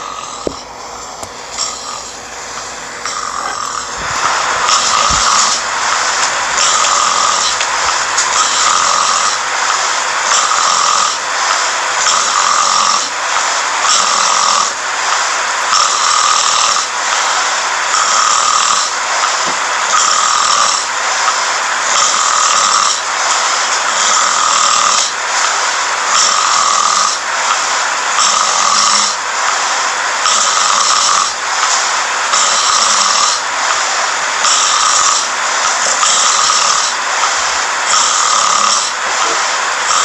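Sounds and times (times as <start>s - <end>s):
person snoring loudly: 0.0s - 40.0s.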